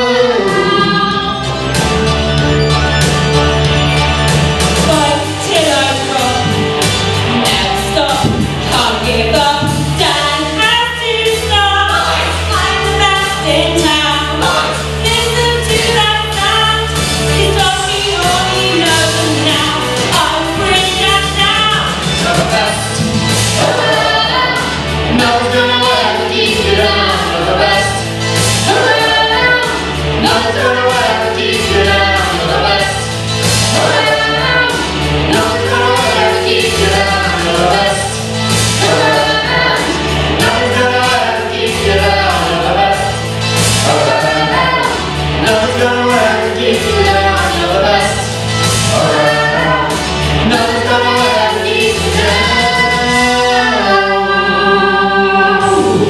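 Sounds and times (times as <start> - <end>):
group singing into microphones: 0.0 - 3.1, 3.8 - 56.0
backing track with bass and beat: 0.0 - 56.0.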